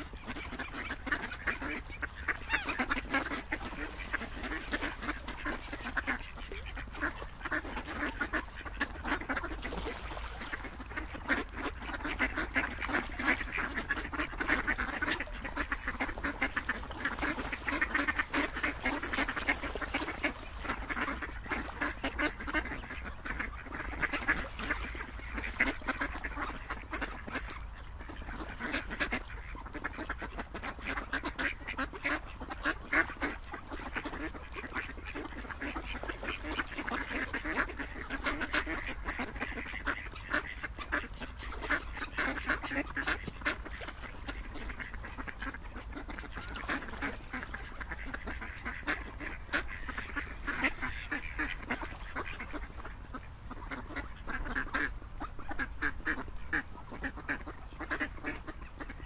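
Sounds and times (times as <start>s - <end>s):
ducks quacking: 0.0s - 59.0s.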